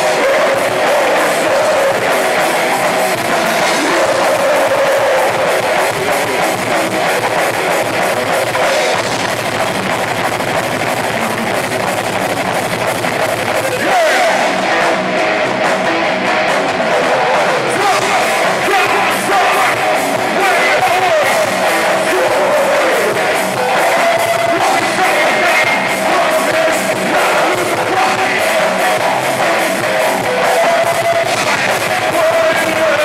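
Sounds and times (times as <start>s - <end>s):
heavy metal band playing: 0.0s - 33.0s.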